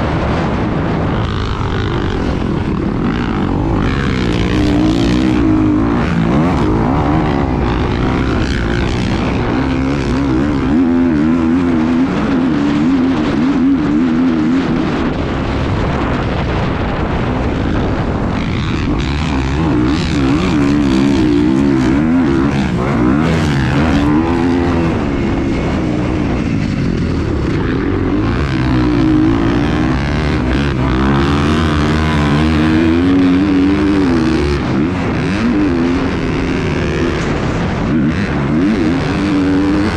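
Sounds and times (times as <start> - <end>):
engine running with wavering pitch: 0.0 - 39.9.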